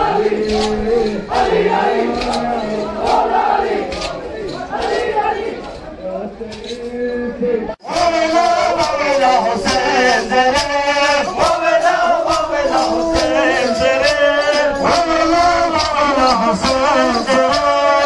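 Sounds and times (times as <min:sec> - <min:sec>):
steady drum beat: 0:00.0 - 0:05.3, 0:07.9 - 0:18.0
men chanting a lament: 0:00.0 - 0:18.0.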